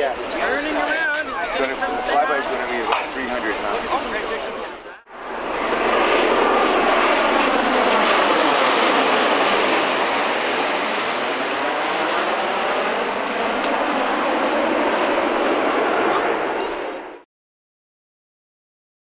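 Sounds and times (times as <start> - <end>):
aircraft rotors rushing overhead: 0.0 - 17.3.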